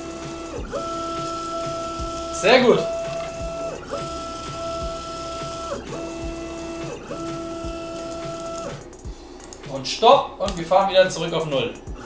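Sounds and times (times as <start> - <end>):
stepper motor whine: 0.0 - 9.8
bearings crackling and rattling: 0.0 - 12.0.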